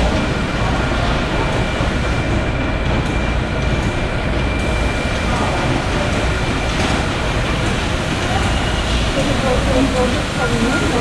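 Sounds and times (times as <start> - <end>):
high machine whine: 0.0 - 11.0
machinery hum and rumble: 0.0 - 11.0.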